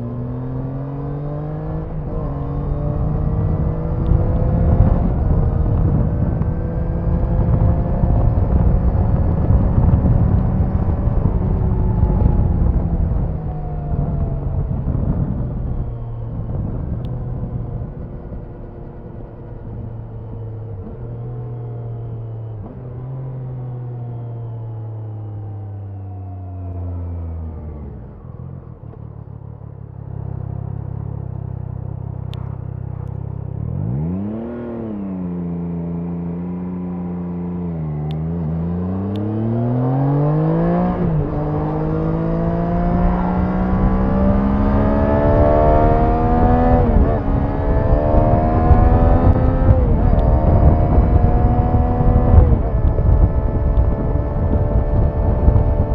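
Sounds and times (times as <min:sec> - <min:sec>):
motorcycle engine revving: 0:00.0 - 0:25.6, 0:26.4 - 0:55.9.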